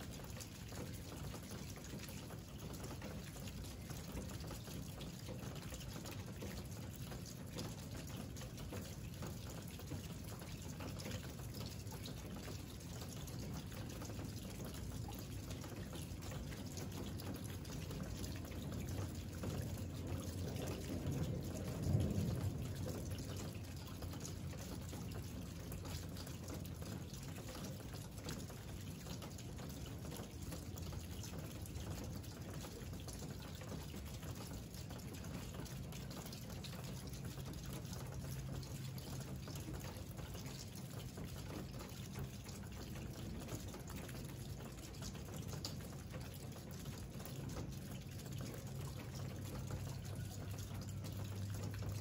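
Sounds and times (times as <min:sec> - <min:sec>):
raindrops pattering: 0:00.0 - 0:52.0
steady rain hiss: 0:00.0 - 0:52.0.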